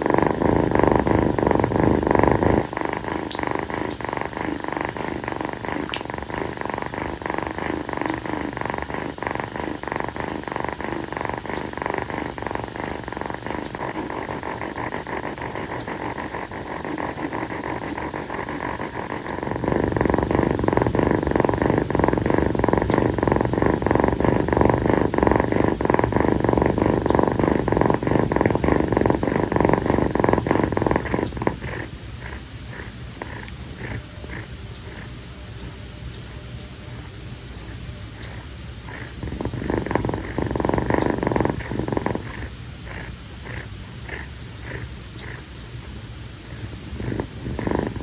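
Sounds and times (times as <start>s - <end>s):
kitten purring: 0.0s - 48.0s.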